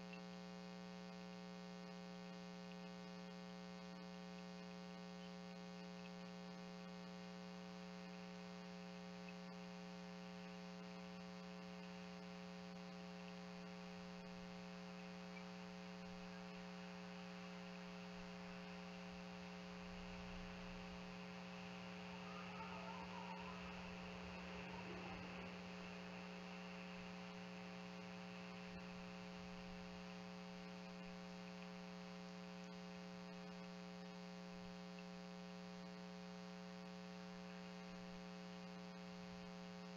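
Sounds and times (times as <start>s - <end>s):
buzzy electrical hum: 0.0s - 39.9s.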